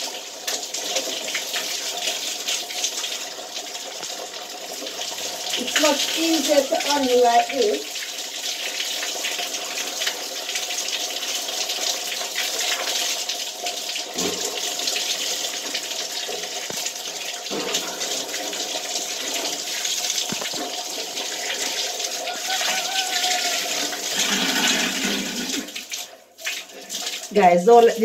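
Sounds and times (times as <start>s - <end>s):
shower water splashing: 0.0s - 28.0s.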